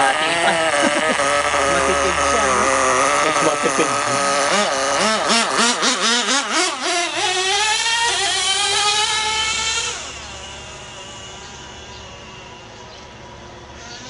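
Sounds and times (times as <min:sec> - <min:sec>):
small nitro engine revving: 0:00.0 - 0:14.0.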